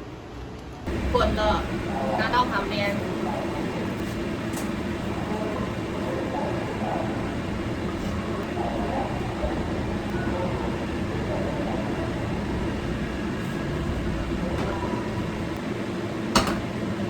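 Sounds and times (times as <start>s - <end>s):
range hood fan humming: 0.1s - 17.0s.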